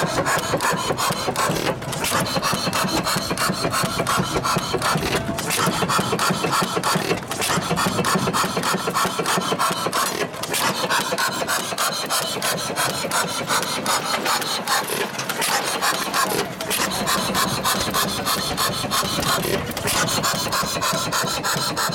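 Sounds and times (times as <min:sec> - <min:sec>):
stationary engine clattering: 0:00.0 - 0:21.9.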